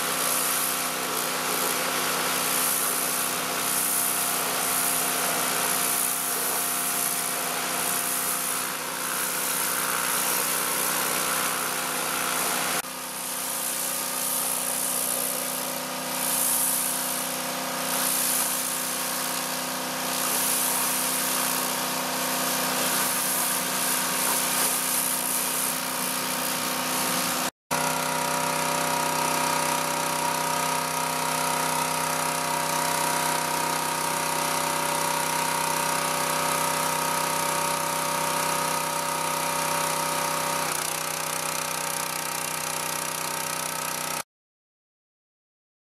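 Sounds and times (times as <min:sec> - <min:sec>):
water jet spraying onto car: 0:00.0 - 0:40.6
pressure washer engine hum: 0:00.0 - 0:44.2.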